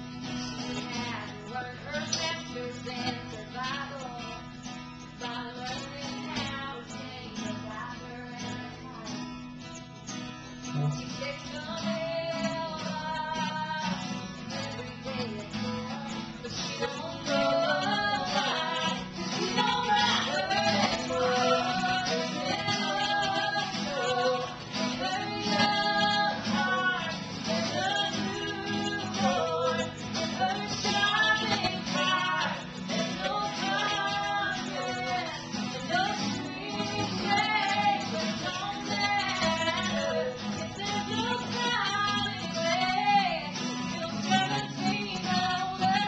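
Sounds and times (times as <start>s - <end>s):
woman singing: 0.0s - 9.6s, 11.0s - 46.0s
strummed acoustic guitar: 0.0s - 46.0s.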